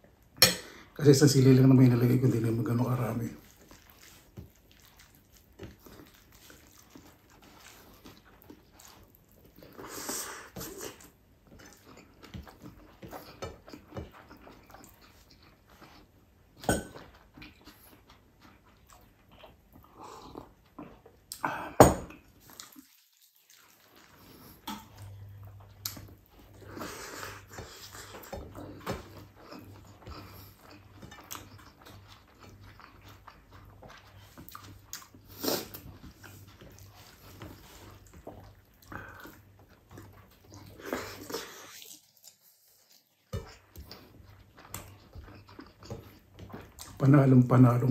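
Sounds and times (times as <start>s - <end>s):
man chewing: 3.3s - 47.0s.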